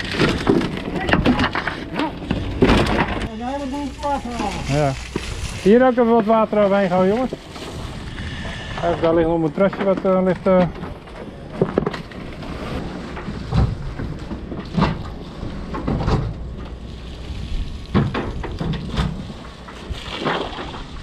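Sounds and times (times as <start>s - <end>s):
footsteps crunching over debris: 0.0s - 20.0s
low rumble of wind: 0.0s - 21.0s.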